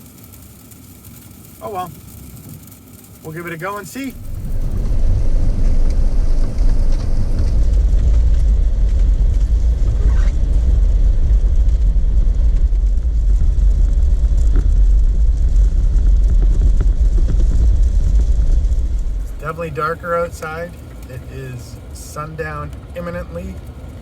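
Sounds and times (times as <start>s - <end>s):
vehicle engine and tyres rumbling: 0.0s - 24.0s.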